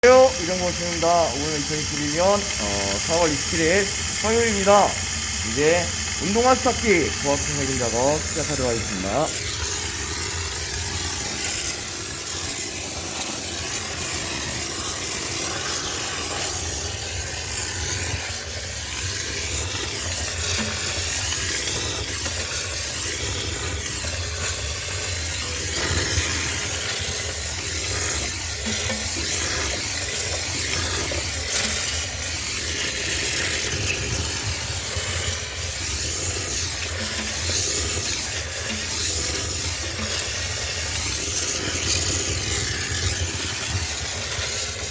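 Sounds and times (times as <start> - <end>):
steam jet hissing: 0.0 - 44.9
steamer unit humming: 0.0 - 44.9.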